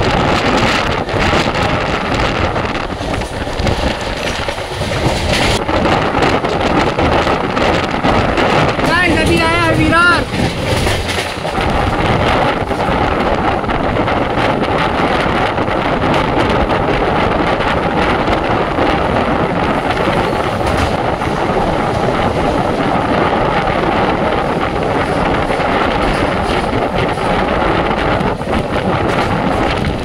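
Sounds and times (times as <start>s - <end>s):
train wheels rushing on rails: 0.0s - 30.0s
wind buffeting microphone: 0.0s - 30.0s.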